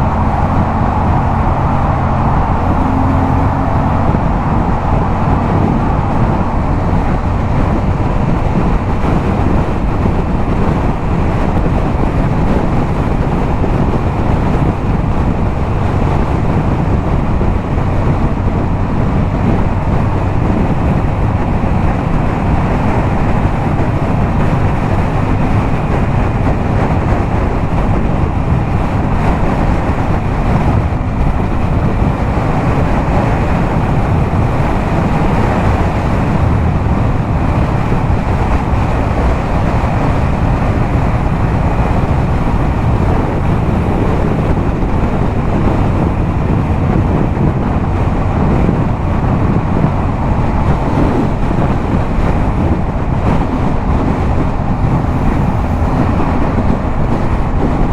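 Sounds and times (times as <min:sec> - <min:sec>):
motorcycle engine cruising: 0:00.0 - 0:57.9
wind rush on microphone: 0:00.0 - 0:57.9.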